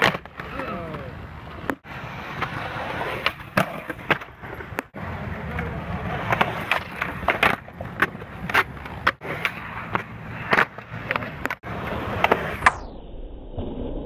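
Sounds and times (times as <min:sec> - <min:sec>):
skateboard wheels rolling on concrete: 0:00.0 - 0:12.9.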